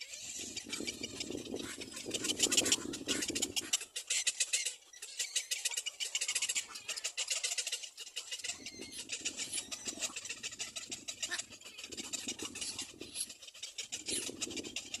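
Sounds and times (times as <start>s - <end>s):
chicks squeaky chatter: 0.0s - 15.0s.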